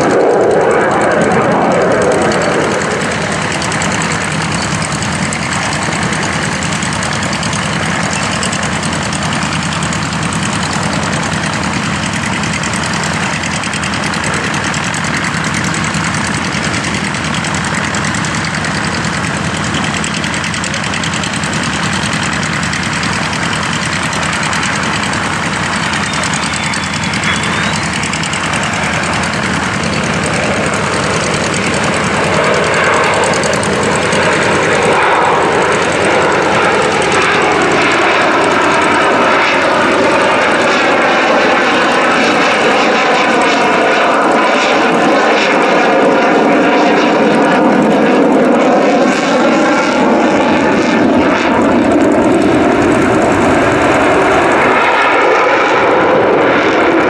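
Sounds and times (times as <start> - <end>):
jet engine roaring: 0.0 - 57.0.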